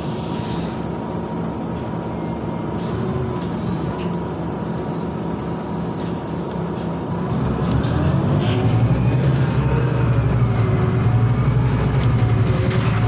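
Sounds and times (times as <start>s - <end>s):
bus engine running low: 0.0s - 13.0s.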